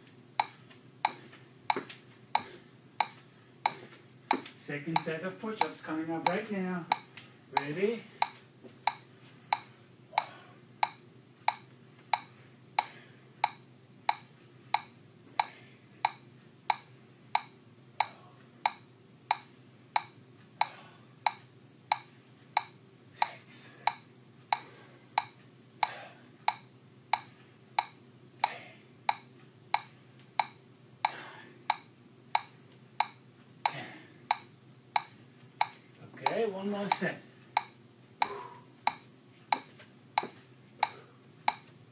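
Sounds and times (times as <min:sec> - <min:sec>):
metronome ticking: 0:00.4 - 0:41.7.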